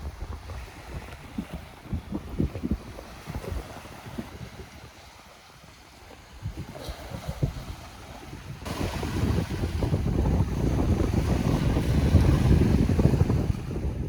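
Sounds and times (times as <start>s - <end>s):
sea surf rushing: 0.0s - 14.0s
wind buffeting microphone: 0.0s - 14.0s.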